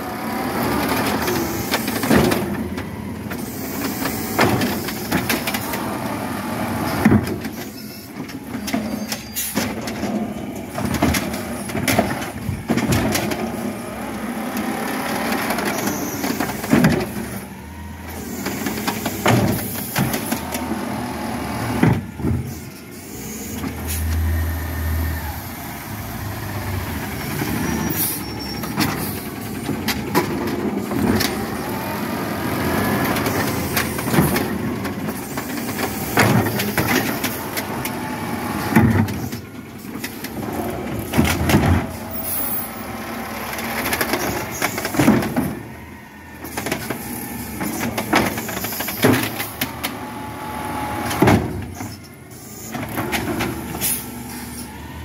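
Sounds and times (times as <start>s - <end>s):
garbage truck engine running: 0.0s - 55.0s
trash carts banging: 0.0s - 55.0s.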